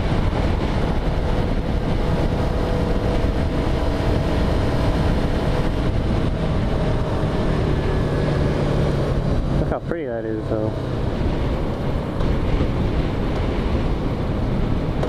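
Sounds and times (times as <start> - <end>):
motorcycle engine cruising: 0.0 - 15.0
wind rushing on microphone: 0.0 - 15.0.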